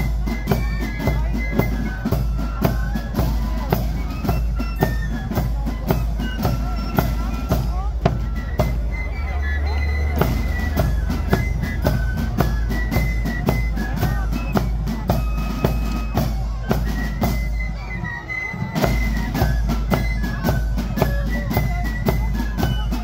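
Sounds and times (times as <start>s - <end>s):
flutes playing melody: 0.0s - 23.0s
side drums marching rhythm: 0.0s - 23.0s.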